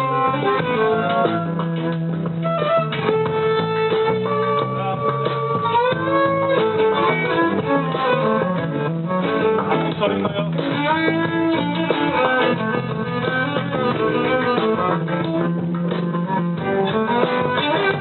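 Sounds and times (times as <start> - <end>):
plucked guitar with held notes: 0.0 - 18.0.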